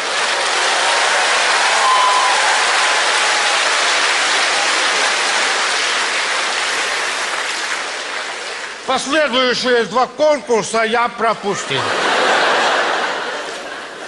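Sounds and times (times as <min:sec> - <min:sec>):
audience applauding: 0:00.0 - 0:09.5, 0:11.5 - 0:14.0.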